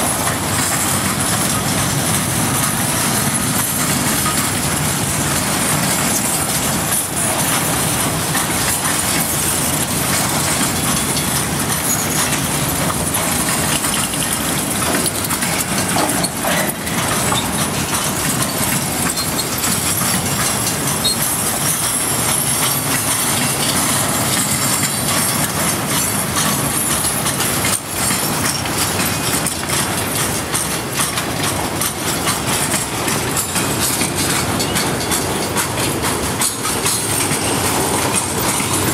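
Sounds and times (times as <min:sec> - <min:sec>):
train wheels rushing on rails: 0:00.0 - 0:38.9.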